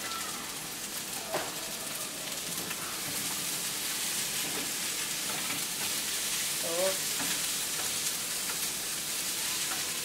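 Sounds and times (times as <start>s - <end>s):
rice sizzling in a frying pan: 0.0s - 10.0s.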